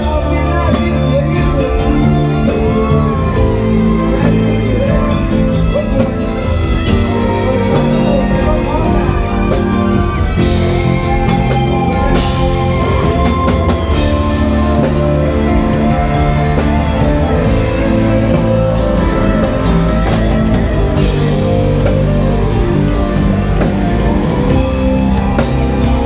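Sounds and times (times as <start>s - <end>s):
drum kit: 0.0s - 26.0s
electric guitars: 0.0s - 26.0s.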